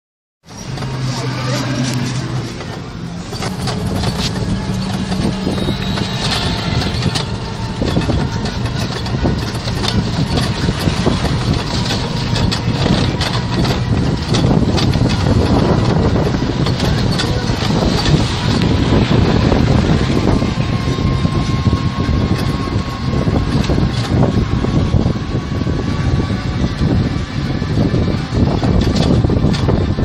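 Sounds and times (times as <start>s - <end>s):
auto-rickshaw engine running: 0.4s - 30.0s
road and wind noise: 0.4s - 30.0s
body rattling: 0.5s - 30.0s.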